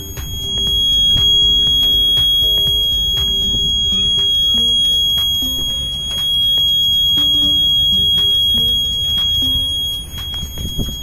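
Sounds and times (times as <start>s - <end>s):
high-pitched alarm panel tone: 0.0s - 11.0s.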